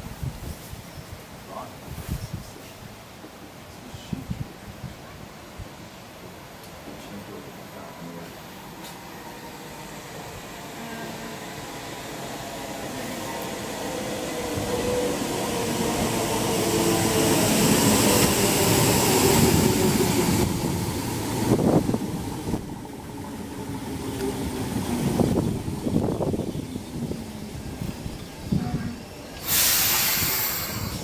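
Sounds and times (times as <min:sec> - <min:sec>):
train passing: 0:05.7 - 0:31.0.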